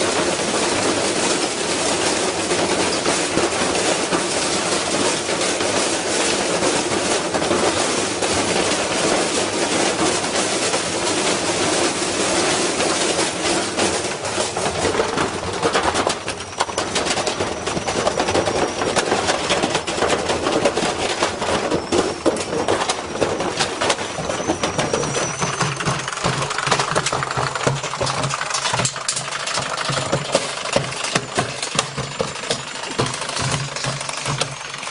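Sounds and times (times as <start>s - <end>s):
unbalanced washing machine drum banging: 0.0s - 34.9s.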